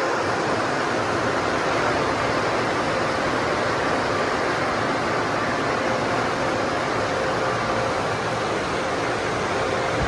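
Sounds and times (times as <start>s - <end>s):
car wash equipment running: 0.0s - 10.0s.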